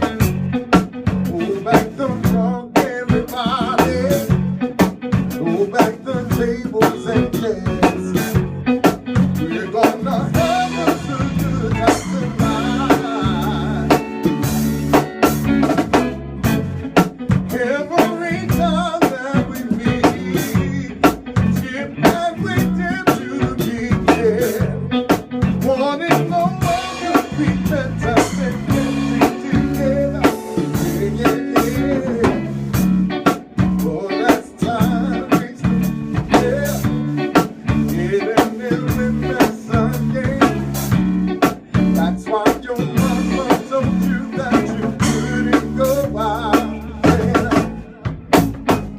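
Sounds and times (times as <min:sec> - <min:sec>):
band playing a groove: 0:00.0 - 0:48.9
bass drum beat: 0:00.0 - 0:48.9.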